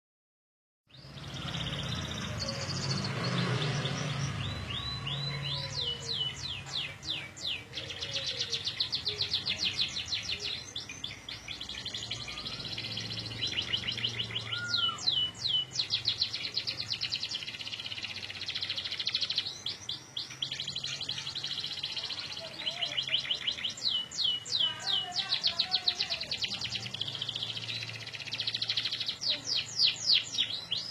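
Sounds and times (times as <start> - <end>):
canary singing trills: 0.9 - 30.9.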